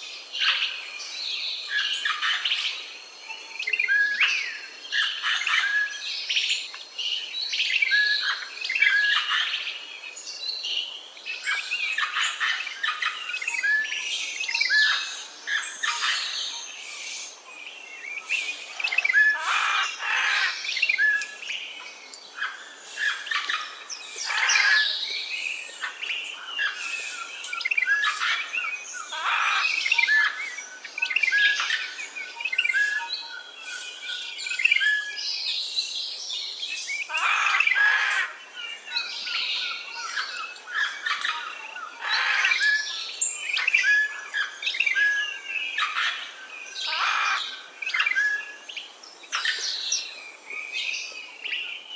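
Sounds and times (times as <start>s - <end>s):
birds chirping and calling: 0.0s - 51.9s.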